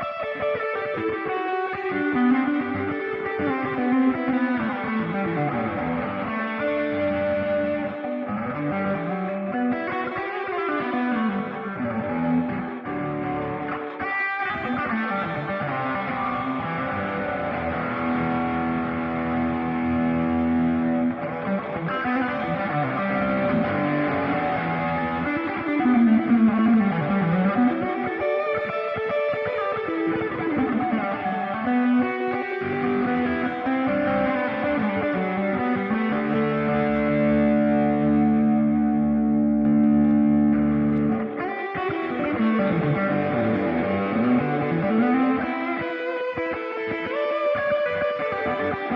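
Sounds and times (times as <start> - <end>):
electric guitar: 0.0 - 48.9.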